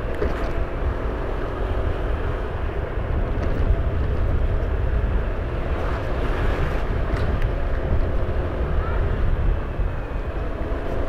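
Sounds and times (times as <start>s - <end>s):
faint engine hum: 0.0s - 11.0s
vehicle road rumble: 0.0s - 11.0s.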